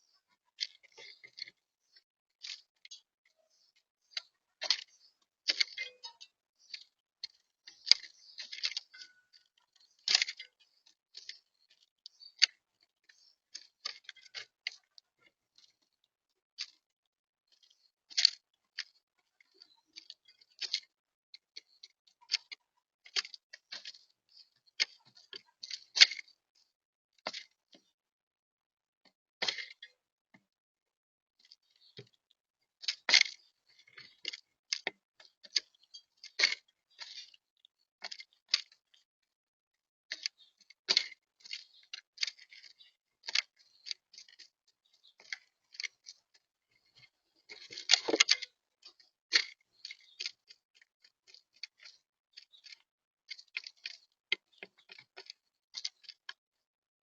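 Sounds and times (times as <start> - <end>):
doves pecking seed: 0.0 - 28.0, 31.4 - 39.1, 40.1 - 56.4.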